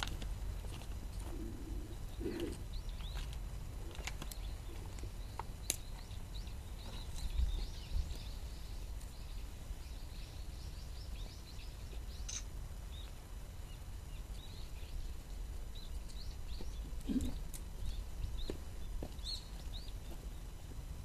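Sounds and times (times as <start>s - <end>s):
low outdoor rumble: 0.0s - 21.0s
small birds chirping: 1.0s - 21.0s.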